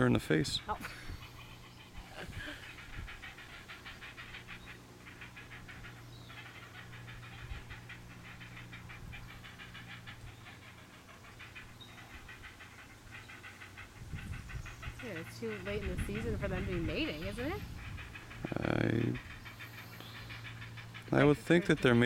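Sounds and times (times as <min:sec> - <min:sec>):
steady low hum: 0:00.0 - 0:22.0
young birds begging calls: 0:00.0 - 0:22.0.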